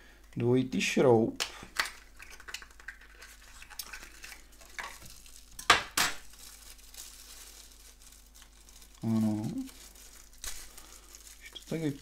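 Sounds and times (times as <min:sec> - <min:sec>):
packaging rustling: 0:01.7 - 0:12.0.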